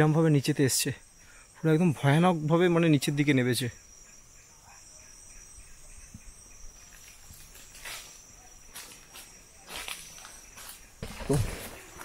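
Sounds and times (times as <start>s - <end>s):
crickets calling: 0.0s - 12.0s.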